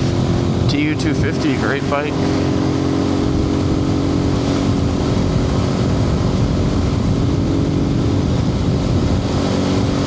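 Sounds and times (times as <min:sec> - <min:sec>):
motorcycle engine cruising: 0:00.0 - 0:10.0
road rumble: 0:00.0 - 0:10.0
wind noise: 0:00.0 - 0:10.0.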